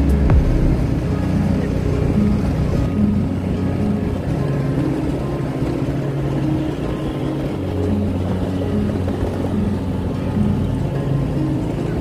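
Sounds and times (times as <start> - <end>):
motorbike engine running: 0.0 - 12.0
road and wind noise: 0.0 - 12.0.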